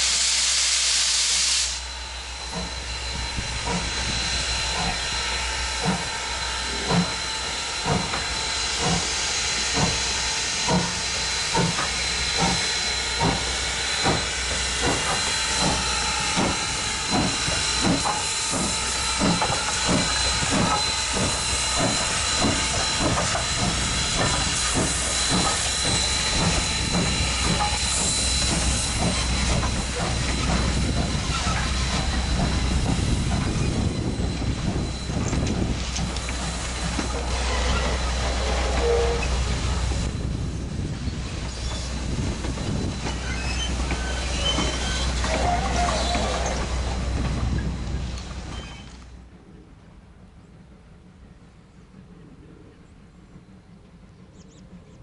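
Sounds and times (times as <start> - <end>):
steam hissing: 0.0 - 49.0
steam locomotive exhaust chuffing: 0.0 - 55.0
train wheels rumbling on rails: 0.0 - 55.0.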